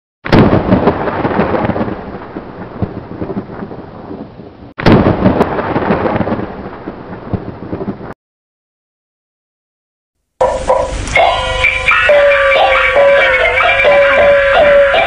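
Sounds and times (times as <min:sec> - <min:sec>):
rain: 0:00.3 - 0:08.2, 0:10.4 - 0:15.0
thunderclap rumbling: 0:00.3 - 0:08.2, 0:10.4 - 0:15.0.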